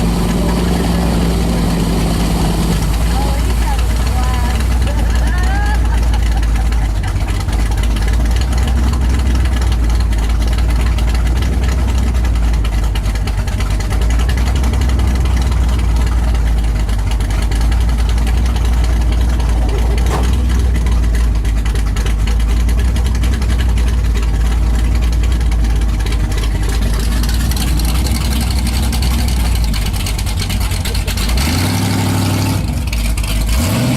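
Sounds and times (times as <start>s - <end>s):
truck engine running loudly: 0.0s - 33.9s.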